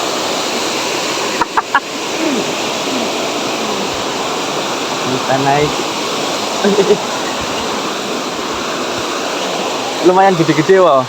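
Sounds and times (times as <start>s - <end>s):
water rushing below dam: 0.0s - 11.0s.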